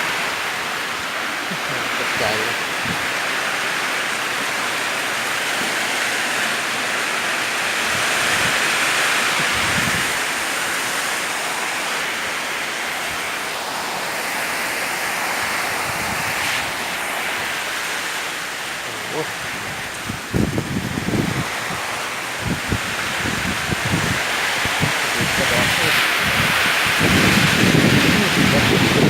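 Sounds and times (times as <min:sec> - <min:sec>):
heavy rain pouring: 0:00.0 - 0:29.0
wind gusts on microphone: 0:00.0 - 0:29.0.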